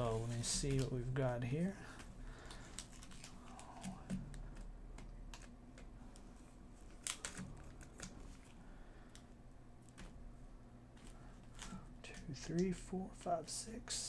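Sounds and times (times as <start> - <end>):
foil card packs rustling: 0.0 - 10.2, 10.9 - 14.0.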